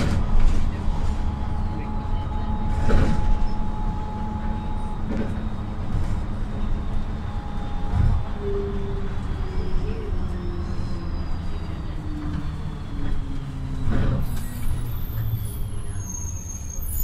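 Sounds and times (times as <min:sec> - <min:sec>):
bus engine whine: 0:00.0 - 0:17.0.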